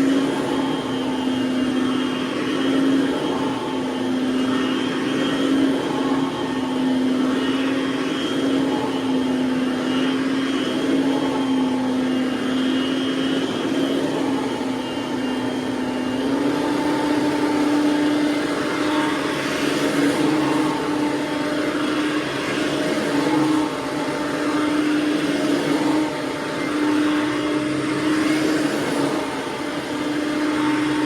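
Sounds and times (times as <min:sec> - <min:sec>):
upright vacuum cleaner running: 0:00.0 - 0:31.0.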